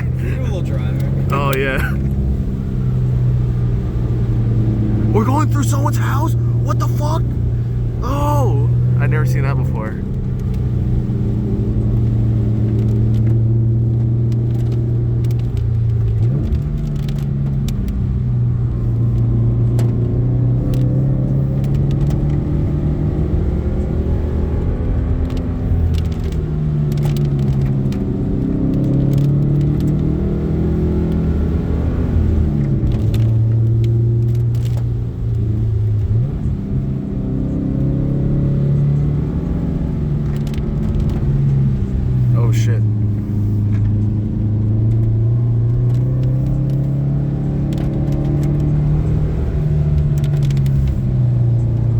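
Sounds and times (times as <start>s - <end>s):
car engine droning inside cabin: 0.0s - 51.9s.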